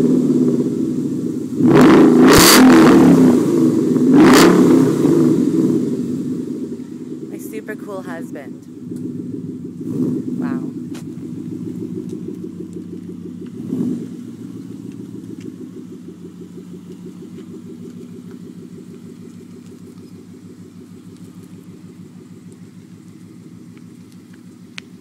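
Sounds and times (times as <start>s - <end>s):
car engine low pulsing exhaust: 0.0s - 25.0s.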